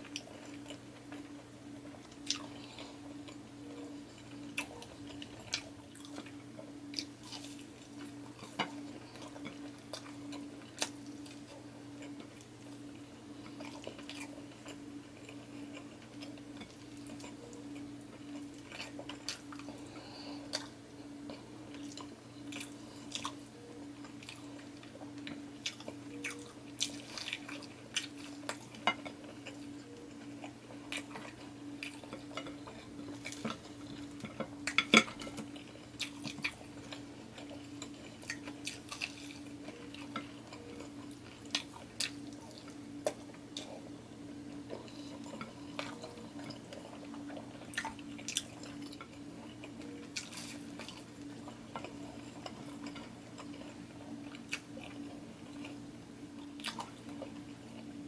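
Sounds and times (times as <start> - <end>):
steady low hum: 0.0 - 58.0
chewing and mouth sounds: 1.9 - 43.9, 44.5 - 55.8, 56.4 - 58.0.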